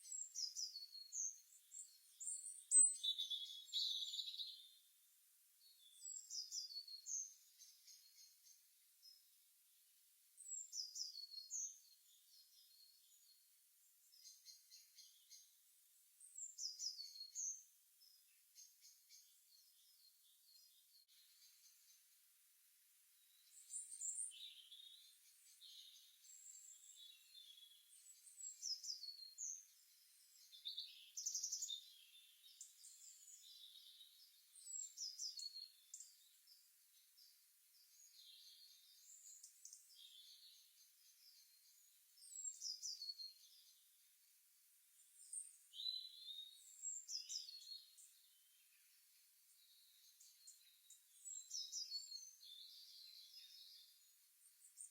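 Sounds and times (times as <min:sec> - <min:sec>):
songbirds chirping and singing: 0:00.0 - 0:04.9, 0:05.6 - 0:09.3, 0:10.4 - 0:15.6, 0:16.2 - 0:22.1, 0:23.2 - 0:44.0, 0:45.0 - 0:54.9.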